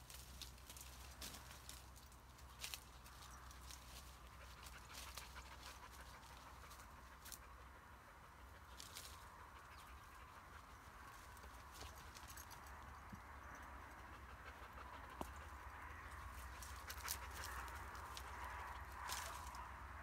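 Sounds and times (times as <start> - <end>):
rustling through brush: 0.0 - 13.1, 13.9 - 20.0.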